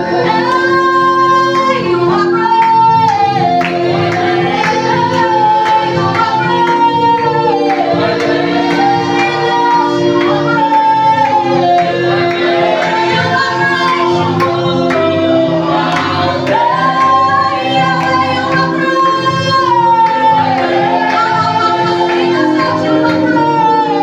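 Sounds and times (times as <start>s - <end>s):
gospel worship music: 0.0s - 24.0s.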